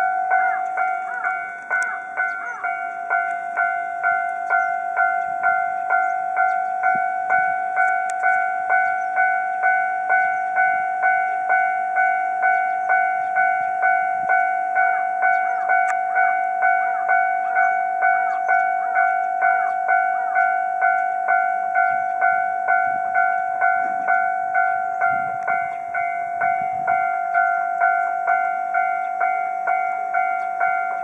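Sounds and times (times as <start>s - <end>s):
level crossing alarm clanging: 0.0s - 31.0s.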